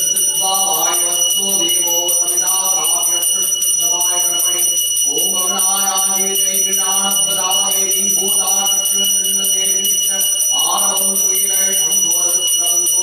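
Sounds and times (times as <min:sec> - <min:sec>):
handbell ringing: 0:00.0 - 0:13.0
man chanting: 0:00.0 - 0:13.0.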